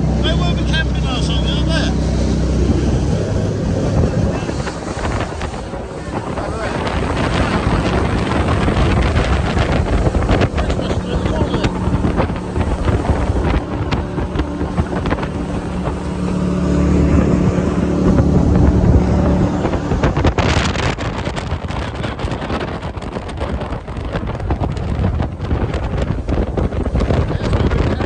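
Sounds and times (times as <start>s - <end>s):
jet boat engine running: 0.0s - 28.0s
wind buffeting microphone: 0.0s - 28.0s.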